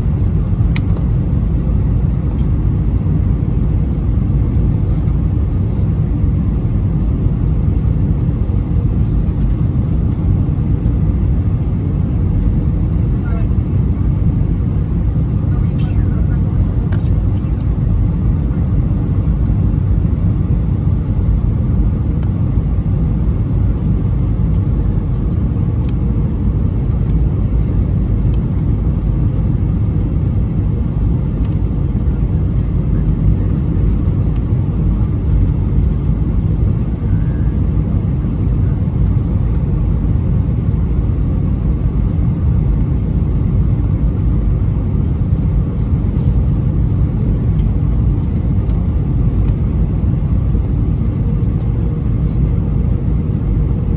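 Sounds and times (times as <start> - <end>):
airplane cabin rumble: 0.0 - 53.9.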